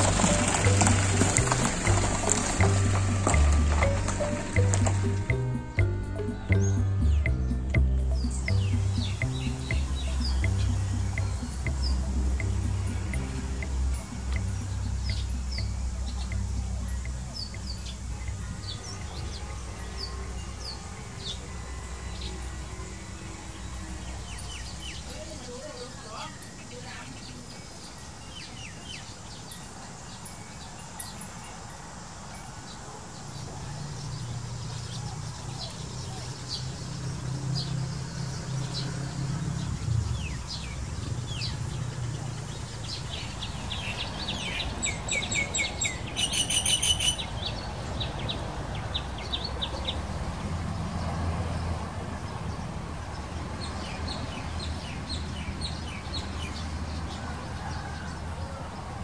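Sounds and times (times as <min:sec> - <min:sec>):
birds chirping and calling: 0:00.0 - 0:50.3.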